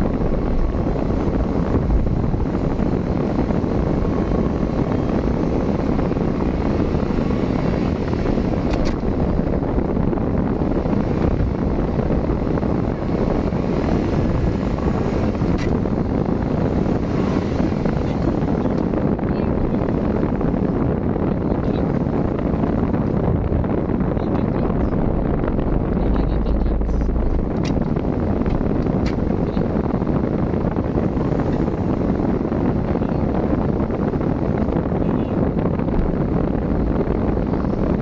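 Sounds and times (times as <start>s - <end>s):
car road and engine noise: 0.0s - 38.0s.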